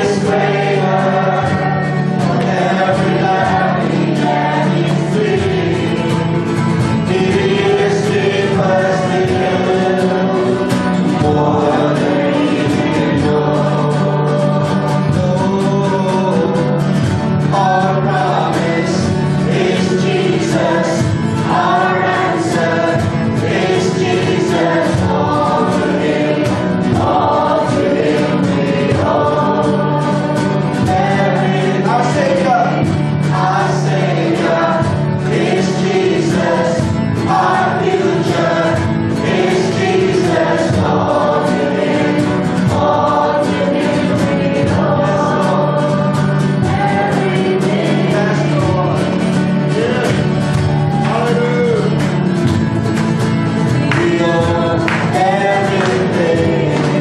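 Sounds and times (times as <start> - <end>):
sustained accompaniment chords: 0.0 - 50.4
choir singing gospel song: 0.0 - 57.0.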